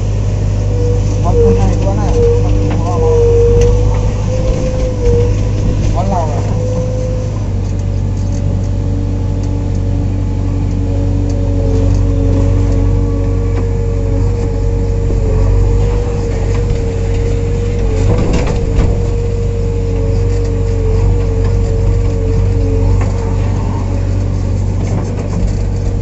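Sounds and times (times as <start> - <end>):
diesel engine running under load: 0.0 - 26.0
steady whine: 0.0 - 26.0.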